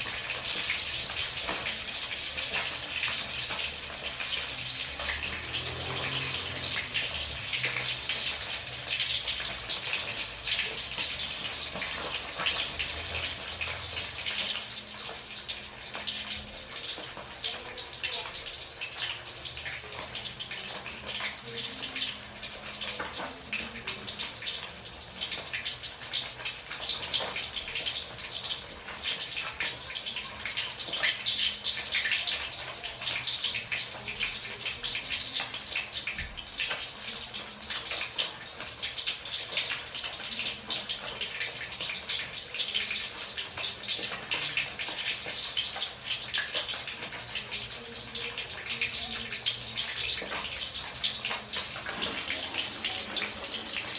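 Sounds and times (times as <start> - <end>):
fish sizzling in hot oil: 0.0 - 53.9.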